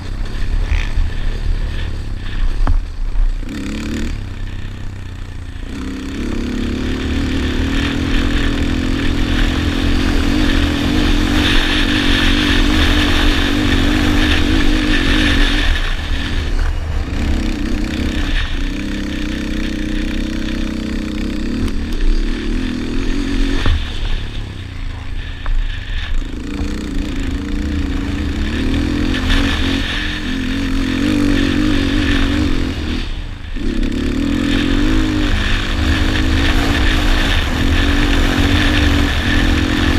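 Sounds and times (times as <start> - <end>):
low rumble: 0.0 - 39.9
quad engine revving: 0.0 - 39.9.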